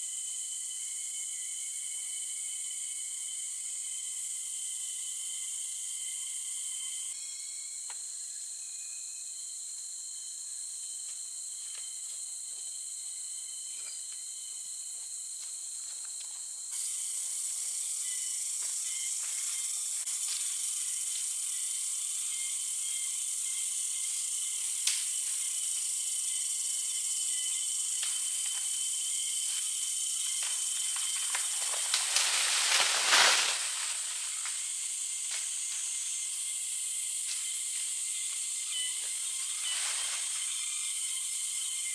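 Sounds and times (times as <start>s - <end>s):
crickets or cicadas droning: 0.0s - 41.9s.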